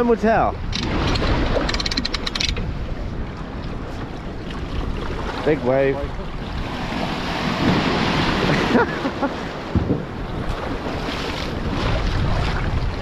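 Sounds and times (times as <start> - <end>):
surf washing along a hull: 0.0 - 13.0
wind buffeting microphone: 0.0 - 13.0.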